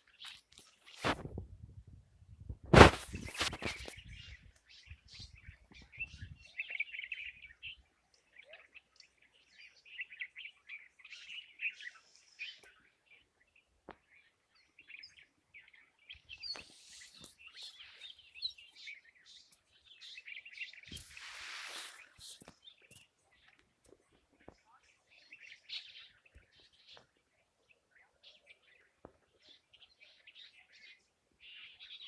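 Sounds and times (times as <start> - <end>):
birds chirping: 2.8 - 32.0.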